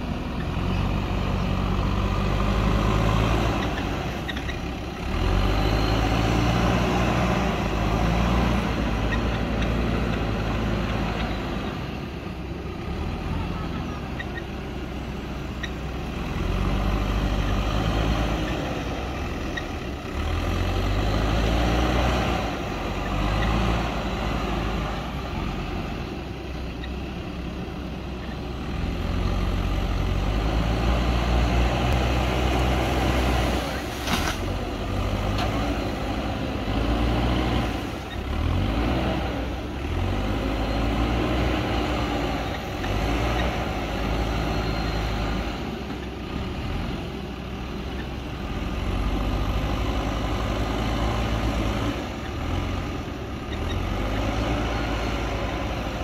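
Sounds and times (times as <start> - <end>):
diesel engine revving under load: 0.0 - 56.0.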